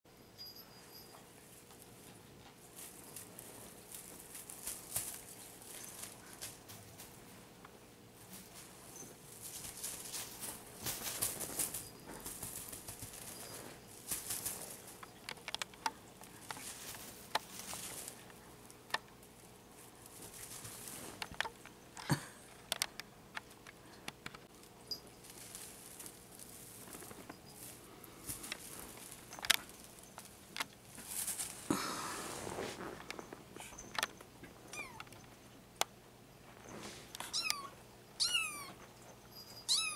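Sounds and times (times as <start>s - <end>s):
kitten pattering and scratching: 0.4s - 35.5s.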